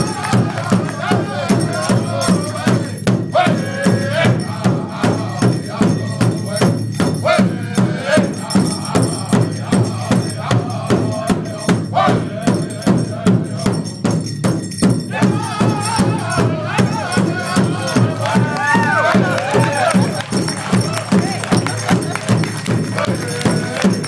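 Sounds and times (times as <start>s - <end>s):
group singing: 0.0s - 14.1s, 15.0s - 24.0s
hand drums beating: 0.0s - 24.0s.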